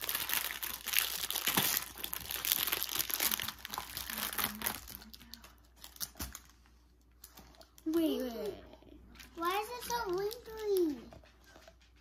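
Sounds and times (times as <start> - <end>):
plastic packaging crinkling: 0.0 - 8.5, 9.2 - 11.1.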